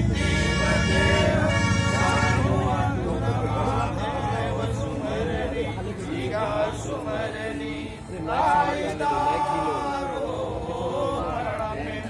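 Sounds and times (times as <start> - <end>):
chanting of mantras: 0.0 - 12.0.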